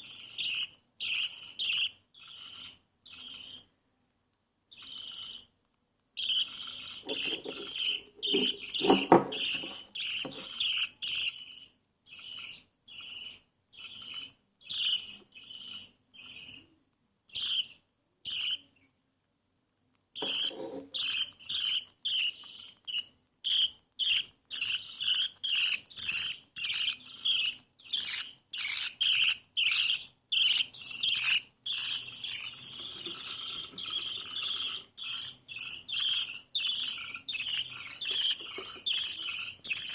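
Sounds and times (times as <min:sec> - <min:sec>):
baby budgie begging calls: 0:00.0 - 0:03.7, 0:04.7 - 0:05.5, 0:06.2 - 0:18.8, 0:20.2 - 0:39.9.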